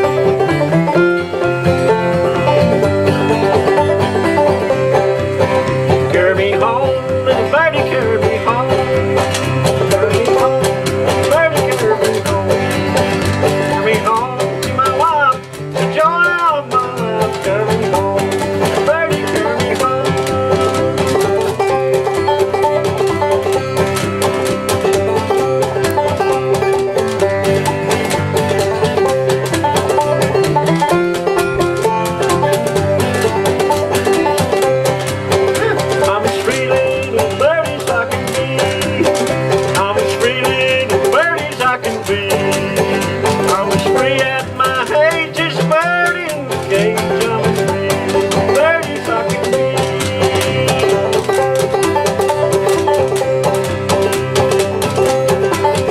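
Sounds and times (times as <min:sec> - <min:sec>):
acoustic guitar picking: 0:00.0 - 0:55.9
banjo picking: 0:00.0 - 0:55.9.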